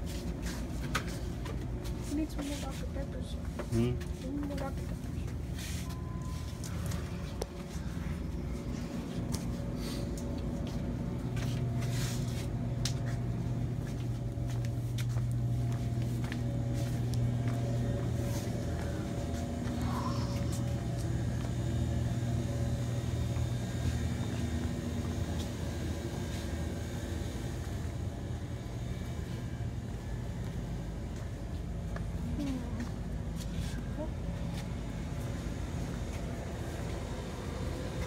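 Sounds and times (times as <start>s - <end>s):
low hum and rumble: 0.0s - 38.0s.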